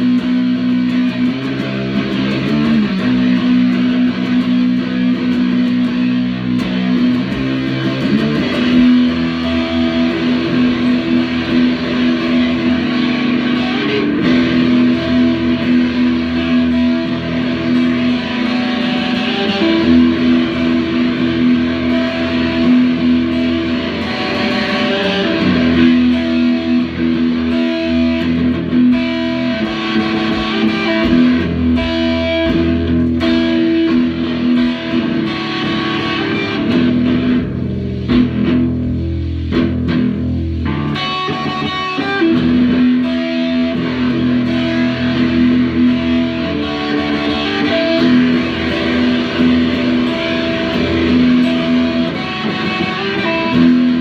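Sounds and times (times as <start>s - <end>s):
electric guitar rock playing: 0.0s - 54.0s.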